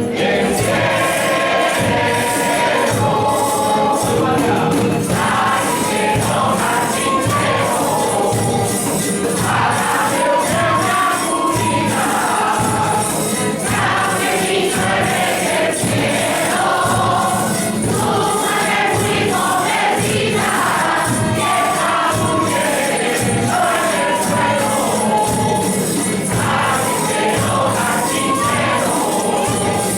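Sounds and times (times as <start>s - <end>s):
group singing a carol over music: 0.0s - 29.9s
jingling percussion: 0.0s - 29.9s.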